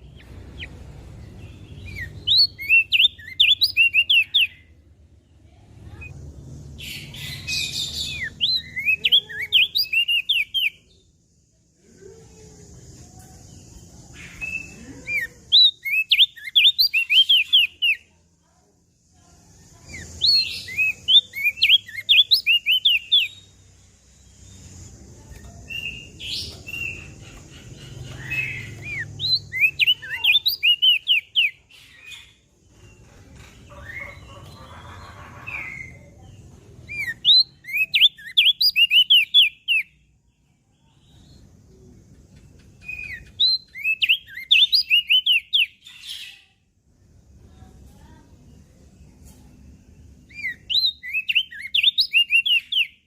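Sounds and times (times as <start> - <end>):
bird singing rapid high chirps: 0.0 - 11.2, 13.5 - 18.2, 19.7 - 40.2, 42.6 - 46.6, 50.0 - 53.0.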